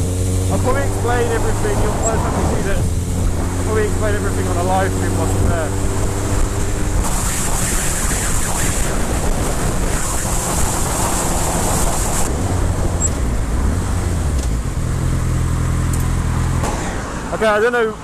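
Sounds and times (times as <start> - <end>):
wind rushing over microphone: 0.0 - 15.2
motorcycle engine running: 0.0 - 16.6.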